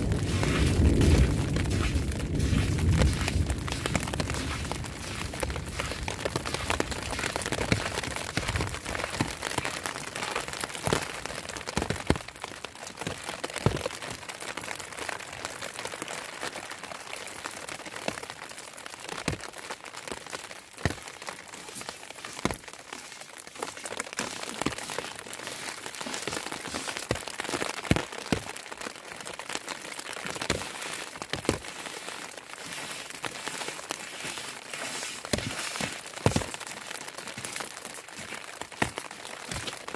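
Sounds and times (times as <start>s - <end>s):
snow pattering: 0.0s - 15.8s, 16.5s - 39.9s.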